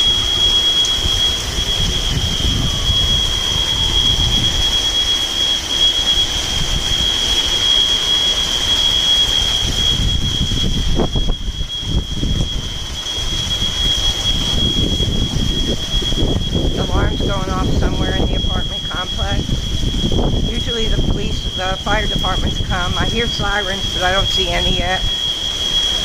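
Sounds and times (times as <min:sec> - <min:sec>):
steady high-pitched alarm tone: 0:00.0 - 0:26.0
wind buffeting microphone: 0:00.0 - 0:26.0.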